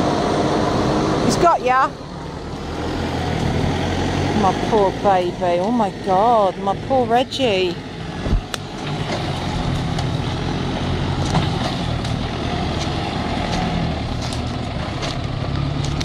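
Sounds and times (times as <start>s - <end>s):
tractor and car engines droning: 0.0s - 16.0s.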